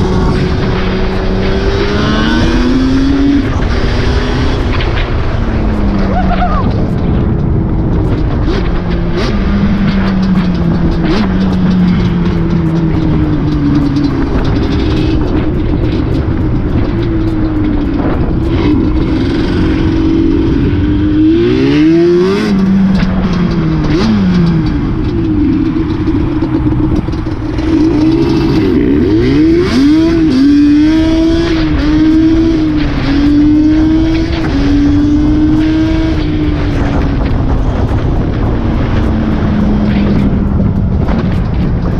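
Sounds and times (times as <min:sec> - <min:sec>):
vehicle engine revving: 0:00.0 - 0:41.9.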